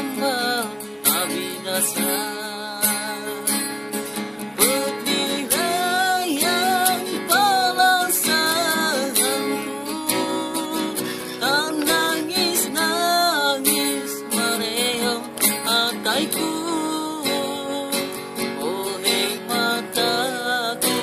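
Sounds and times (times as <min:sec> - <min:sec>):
man singing: 0:00.0 - 0:21.0
strummed acoustic guitar: 0:00.0 - 0:21.0.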